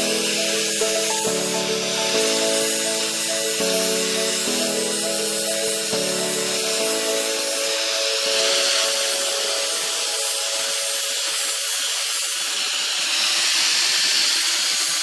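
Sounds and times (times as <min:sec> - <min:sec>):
power tool sanding metal: 0:01.8 - 0:15.0.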